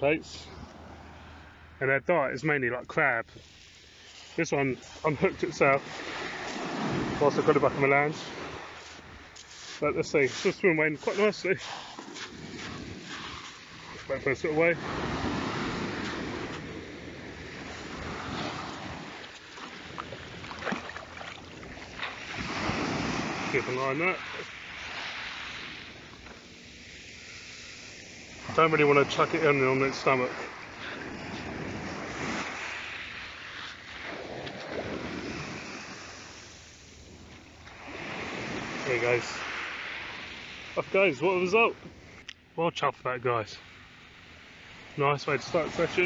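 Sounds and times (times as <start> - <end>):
waves washing over shingle beach: 0.0 - 46.0.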